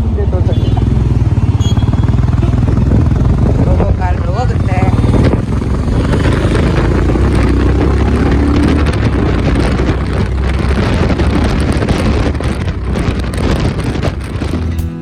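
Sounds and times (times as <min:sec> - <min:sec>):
motorcycle engine rumble: 0:00.0 - 0:15.0
wind rush on microphone: 0:00.0 - 0:15.0.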